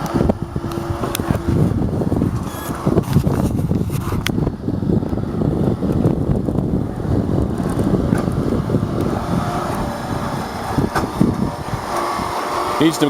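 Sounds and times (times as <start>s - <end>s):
low mechanical rumble: 0.0s - 13.0s
wind noise on microphone: 0.0s - 13.0s.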